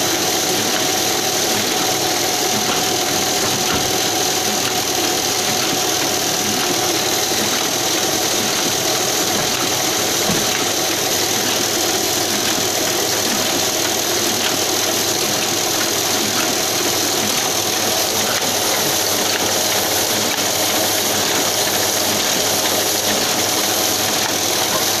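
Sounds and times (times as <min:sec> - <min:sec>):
printing press running: 0:00.0 - 0:25.0.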